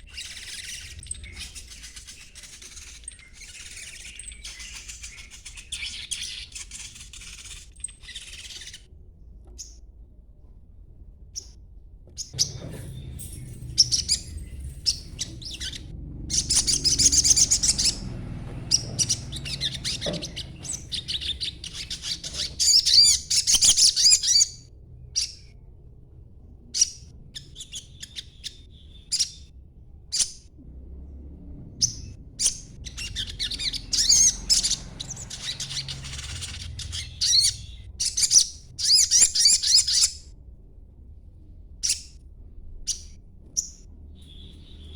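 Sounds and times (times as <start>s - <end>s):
bird twittering and chipping: 0.0s - 9.8s, 11.4s - 25.7s, 26.6s - 29.5s, 31.8s - 40.3s, 42.8s - 44.9s
low background rumble: 8.7s - 44.9s.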